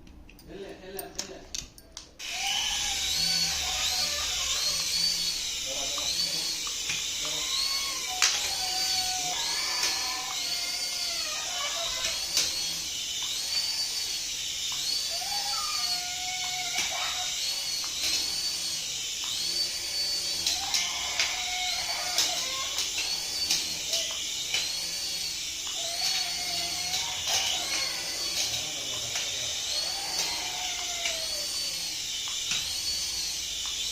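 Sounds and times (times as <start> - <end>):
toy clicks: 0.0 - 33.9
toy's high-pitched whine: 2.2 - 33.9.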